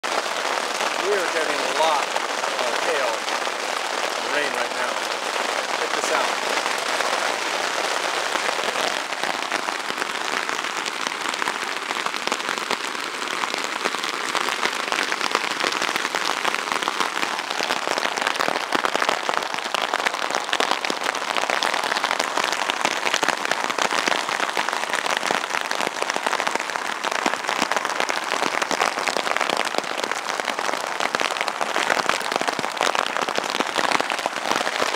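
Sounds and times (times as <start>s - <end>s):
hail and rain falling hard: 0.0s - 34.9s.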